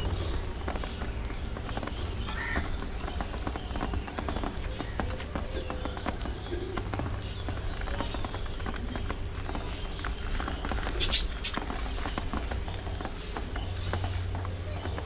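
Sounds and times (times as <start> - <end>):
budgies pecking seed: 0.0 - 15.0.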